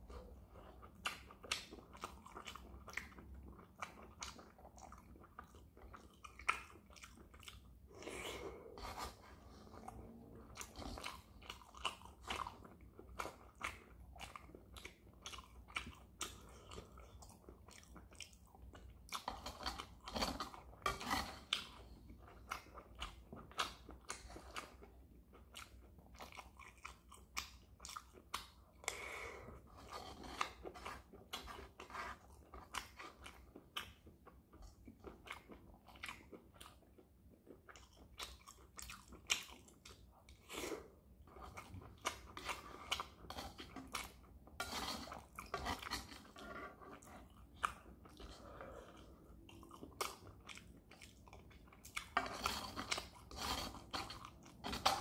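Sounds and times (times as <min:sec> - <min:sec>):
close chewing crunches: 0:00.1 - 0:55.0.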